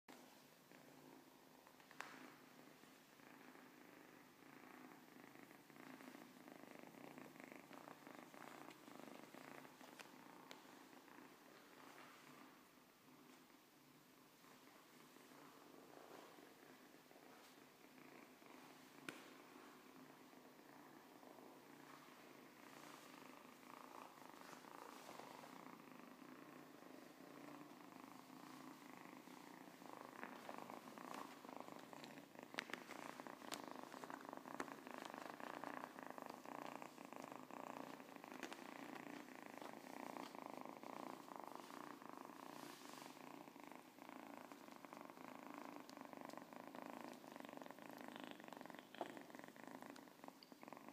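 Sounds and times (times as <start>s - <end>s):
kitten purring: 0.1s - 50.9s.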